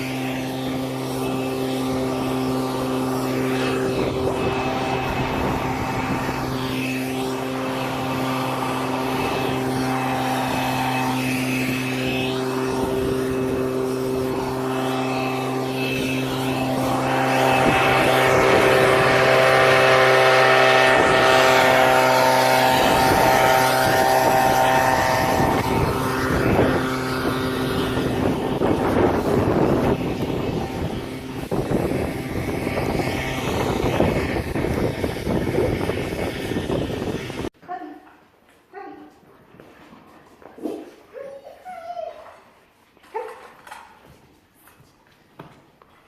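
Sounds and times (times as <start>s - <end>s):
motor running steadily: 0.0s - 37.6s.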